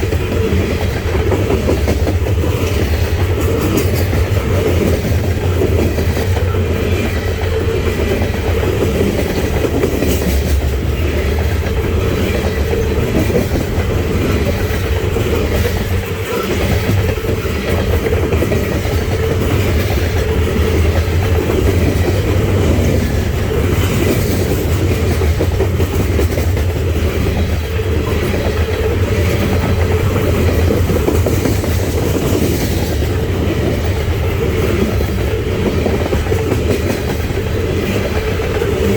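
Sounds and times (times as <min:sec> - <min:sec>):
freight train rumbling past: 0:00.0 - 0:38.9
train wheel clatter: 0:00.0 - 0:38.9.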